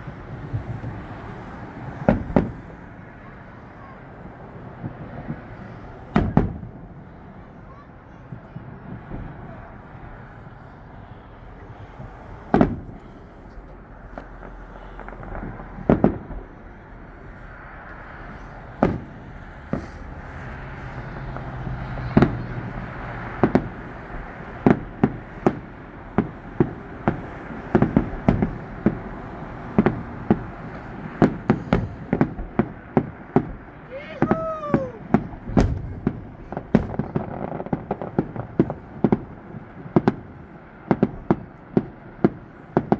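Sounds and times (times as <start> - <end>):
fireworks bursting with booms: 0.0 - 7.3, 8.2 - 42.9.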